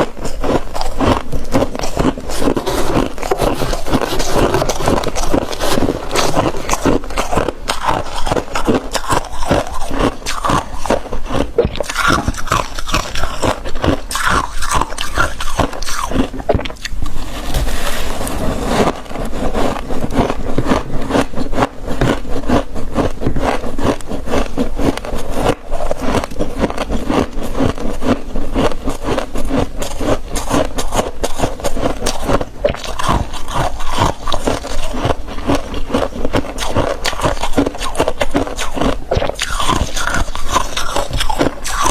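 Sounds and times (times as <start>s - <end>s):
frost being scraped and crunched: 0.0s - 41.9s.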